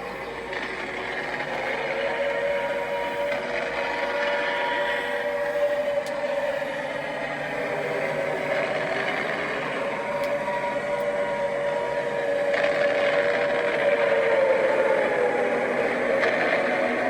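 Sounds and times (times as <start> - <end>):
mechanical drone: 0.0 - 17.0
wavering sustained tones: 0.0 - 17.0.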